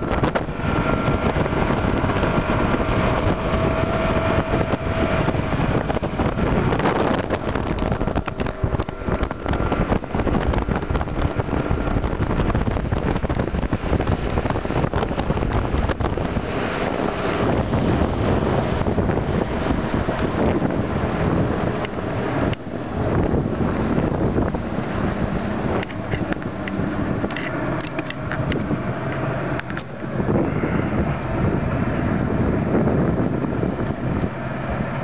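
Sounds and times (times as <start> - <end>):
outboard motor running: 0.0 - 35.0
wind on microphone: 0.0 - 35.0.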